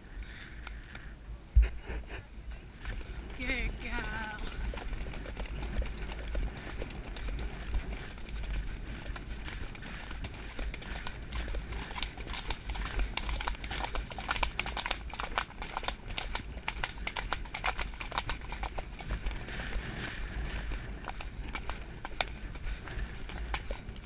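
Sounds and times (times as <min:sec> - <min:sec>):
hoofbeats on dirt track: 0:00.0 - 0:24.0
steady low rumble: 0:00.0 - 0:24.0.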